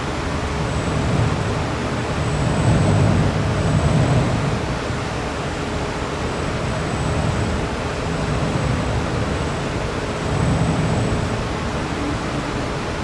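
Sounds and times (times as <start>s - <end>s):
electric fans blowing: 0.0s - 13.0s
faint steady hum: 0.0s - 13.0s
wash of irregular waves: 0.0s - 13.0s.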